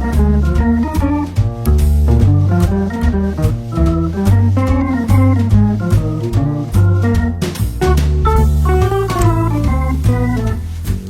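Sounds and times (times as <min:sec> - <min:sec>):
organ-led instrumental music: 0:00.0 - 0:11.0.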